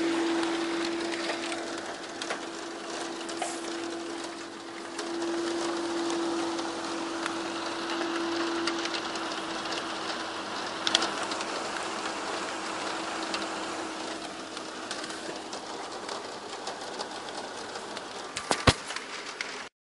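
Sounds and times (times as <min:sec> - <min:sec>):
low hum: 0:00.0 - 0:18.3
steady rain: 0:00.0 - 0:19.7.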